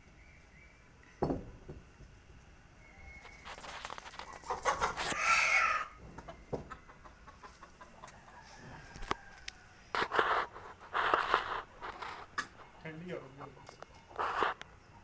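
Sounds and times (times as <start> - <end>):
chickens clucking and calling: 2.8 - 15.0.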